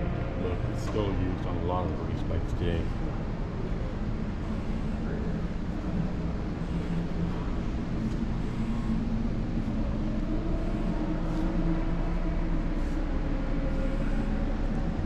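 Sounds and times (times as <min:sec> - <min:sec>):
low droning hum with rumble: 0:00.0 - 0:15.0.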